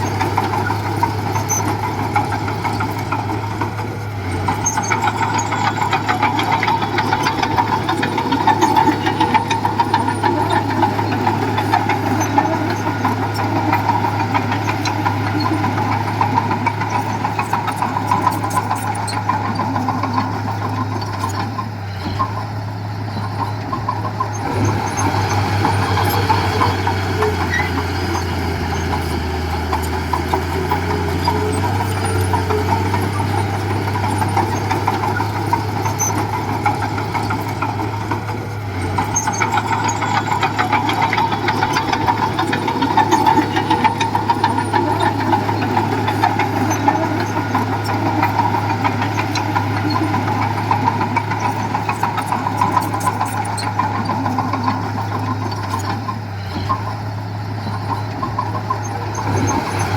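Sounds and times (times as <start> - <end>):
diesel engine running: 0.0 - 59.9
rattly clatter: 0.0 - 59.9.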